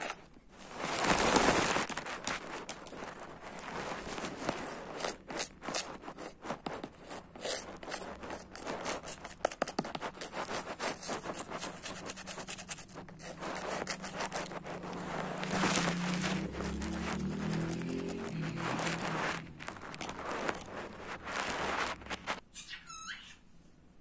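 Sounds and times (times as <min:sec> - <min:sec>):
painting tool scraping canvas: 0:00.0 - 0:22.4.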